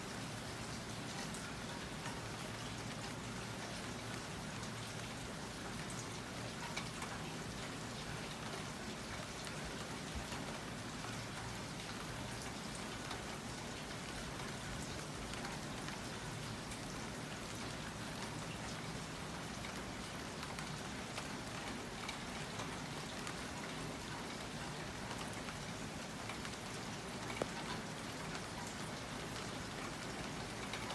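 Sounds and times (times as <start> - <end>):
steady rain hissing: 0.0 - 30.9
raindrops pattering: 0.1 - 30.9.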